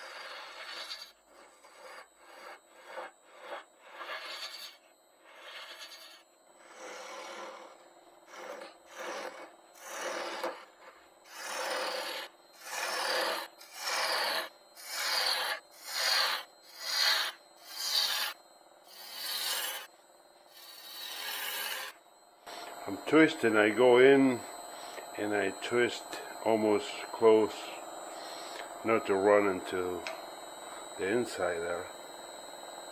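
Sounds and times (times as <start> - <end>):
gouge scraping spinning wood: 0.0 - 19.9, 20.5 - 32.9.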